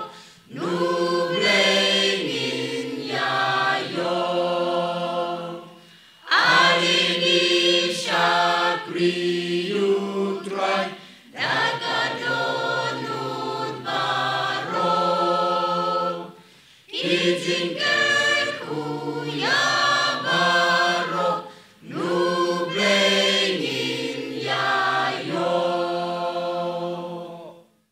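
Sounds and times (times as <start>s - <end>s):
mixed choir singing a hymn: 0.0s - 27.7s.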